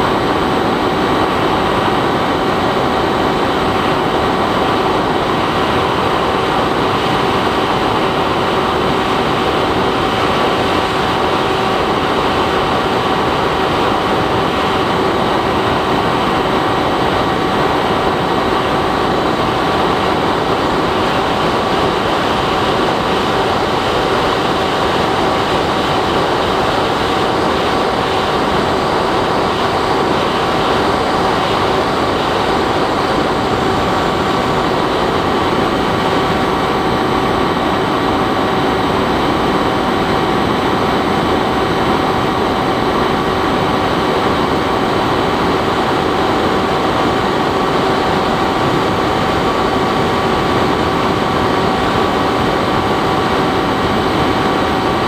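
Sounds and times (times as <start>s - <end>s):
rushing airflow: 0.0s - 55.0s.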